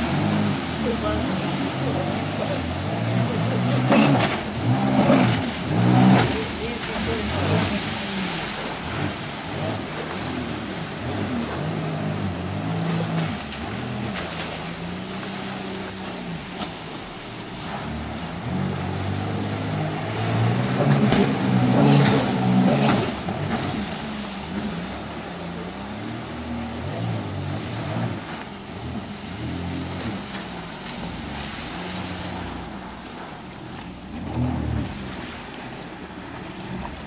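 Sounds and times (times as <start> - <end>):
jet ski engine revving: 0.0 - 37.0.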